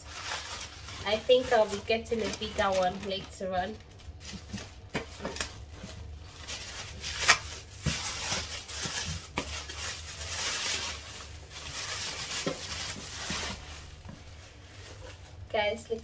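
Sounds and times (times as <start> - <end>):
plastic bag rustling: 0.0 - 16.0.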